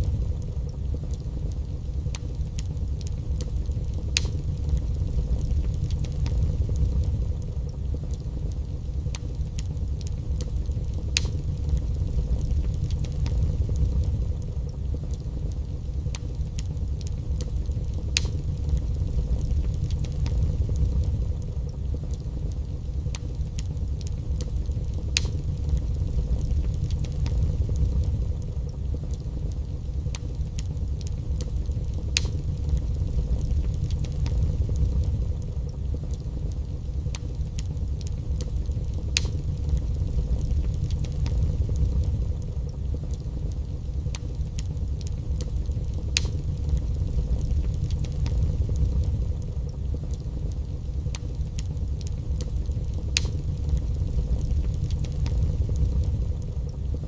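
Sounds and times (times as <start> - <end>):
fire low roar: 0.0 - 57.0
wood fire crackling: 0.0 - 57.0.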